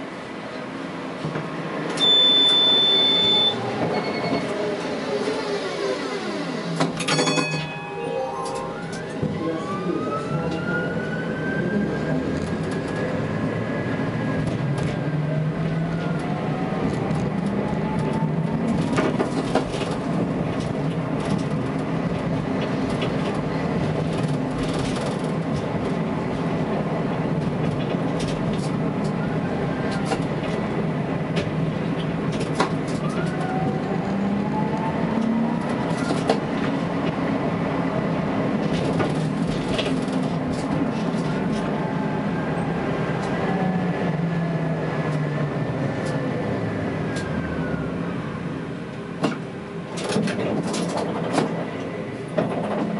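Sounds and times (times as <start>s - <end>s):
tram wheels rumbling on track: 0.0s - 52.9s.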